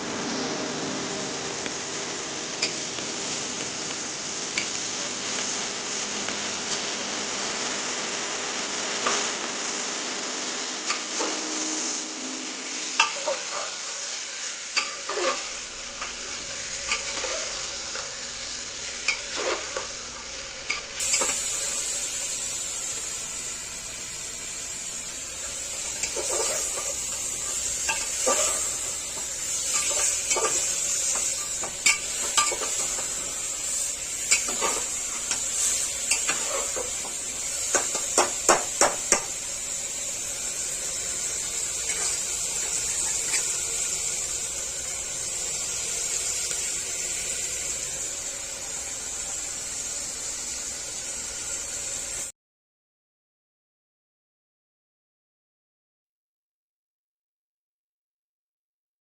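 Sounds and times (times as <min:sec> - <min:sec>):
curry sizzling in a frying pan: 0:00.0 - 0:52.3.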